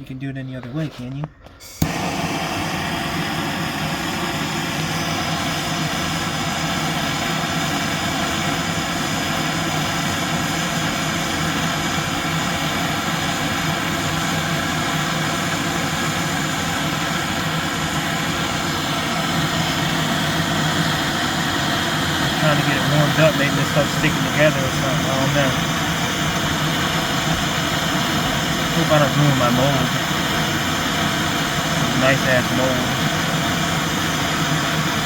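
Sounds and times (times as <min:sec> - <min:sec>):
blowtorch flame roaring: 0:01.8 - 0:35.0.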